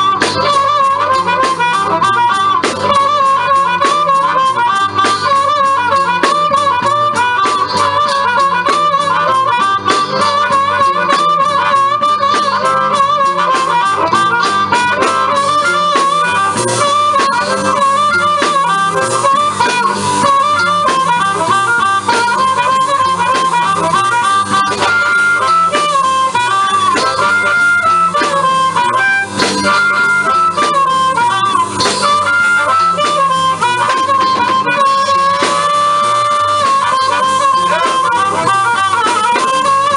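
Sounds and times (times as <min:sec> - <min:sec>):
harmonica solo: 0:00.0 - 0:39.9
strummed guitar rhythm: 0:00.0 - 0:39.9.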